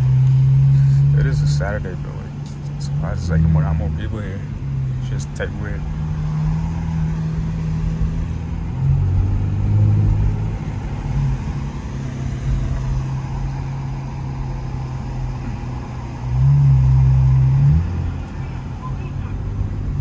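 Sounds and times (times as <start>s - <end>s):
car engine and exhaust: 0.0s - 20.0s.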